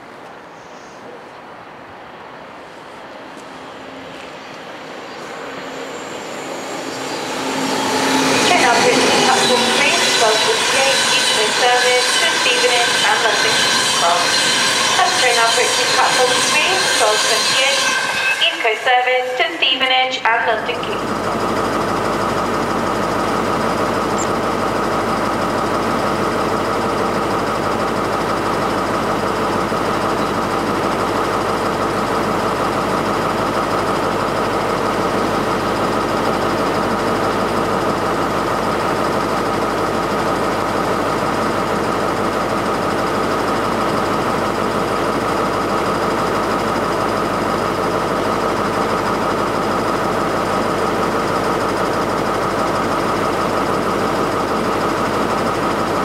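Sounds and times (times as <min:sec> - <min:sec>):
diesel train engine idling: 0:01.7 - 0:56.0.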